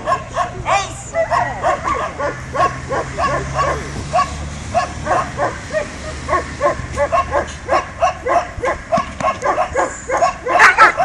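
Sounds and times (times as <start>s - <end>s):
dog barking rapidly: 0.0s - 11.0s.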